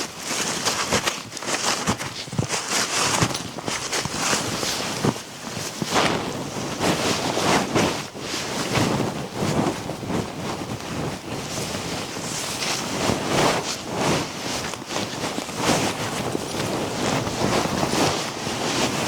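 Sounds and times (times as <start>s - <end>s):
blizzard wind buffeting microphone: 1.9s - 19.0s.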